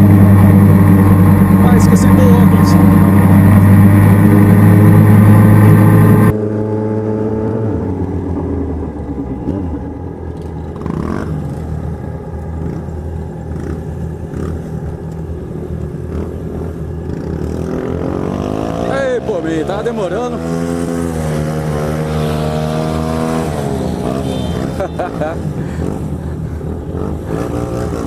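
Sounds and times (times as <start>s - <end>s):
motorcycle engines droning: 0.0s - 28.0s.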